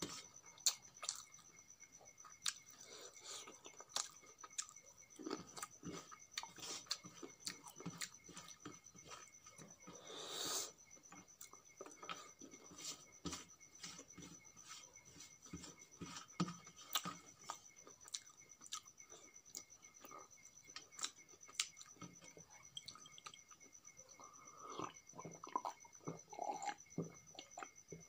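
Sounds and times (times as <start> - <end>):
chewing rice: 0.0 - 13.0, 13.6 - 28.0.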